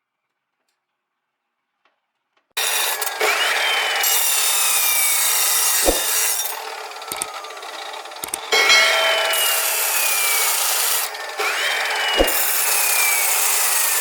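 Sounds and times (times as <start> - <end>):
power tool grinding: 2.6 - 14.0.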